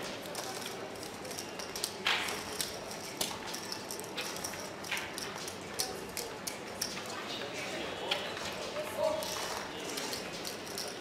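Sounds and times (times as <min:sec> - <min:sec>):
casino chips clicking and clacking: 0:00.0 - 0:07.1, 0:09.1 - 0:11.0.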